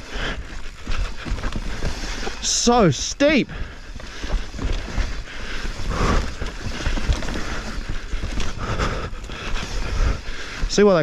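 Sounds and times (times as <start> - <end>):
bike knocking and rattling: 0.0 - 11.0
bike tyres rumbling on dirt: 0.0 - 11.0.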